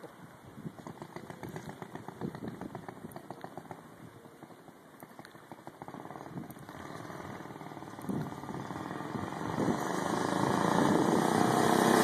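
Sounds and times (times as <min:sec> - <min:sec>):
small engine puttering: 0:00.7 - 0:12.0.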